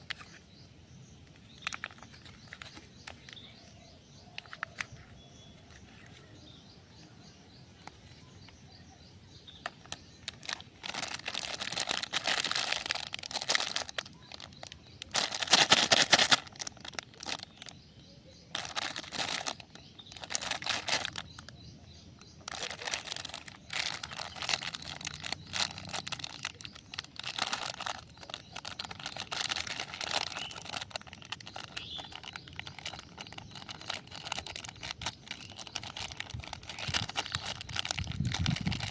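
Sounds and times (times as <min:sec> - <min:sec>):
plastic wrappers crinkling: 0:00.0 - 0:00.5, 0:01.2 - 0:06.4, 0:09.5 - 0:38.9.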